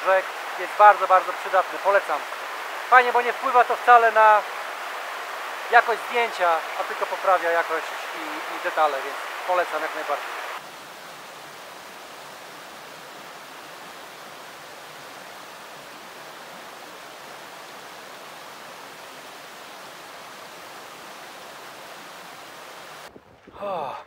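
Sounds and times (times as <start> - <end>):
water rushing over rocks: 0.0 - 23.1.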